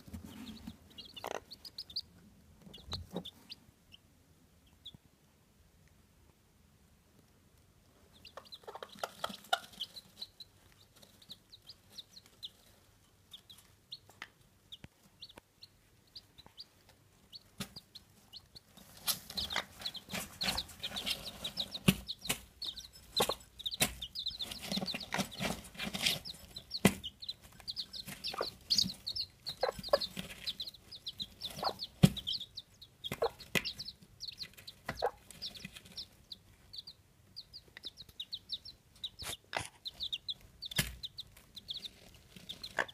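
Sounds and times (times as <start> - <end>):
hen clucking: 0.0 - 4.0, 8.1 - 12.7, 13.3 - 42.9
chicks peeping: 0.0 - 5.1, 7.8 - 42.9.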